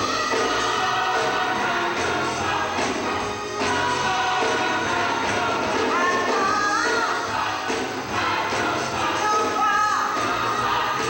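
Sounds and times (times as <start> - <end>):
church choir singing gospel: 0.0 - 11.0
instrumental accompaniment: 0.0 - 11.0.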